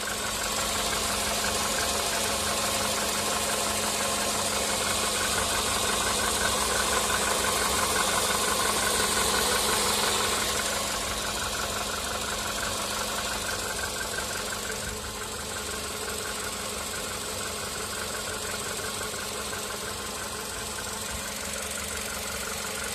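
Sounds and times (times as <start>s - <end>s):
car engine idling with knocking: 0.0s - 22.9s.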